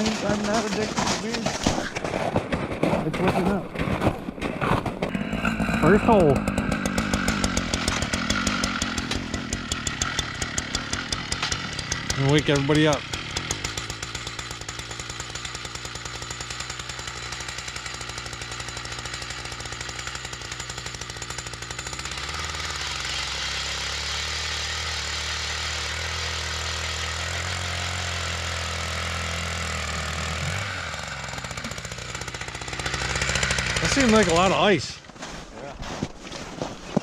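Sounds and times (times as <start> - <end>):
power ice auger drilling: 0.0 - 37.0.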